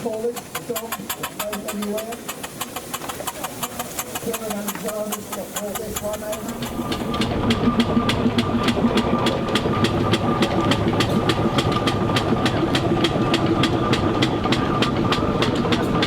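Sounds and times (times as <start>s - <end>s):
steam engine rhythmic knocking: 0.0s - 16.0s.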